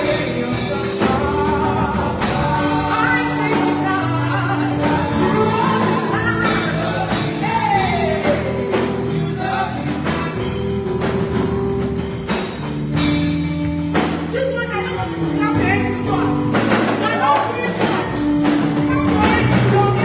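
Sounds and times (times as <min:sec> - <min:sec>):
gospel singing over chords and beat: 0:00.0 - 0:20.0.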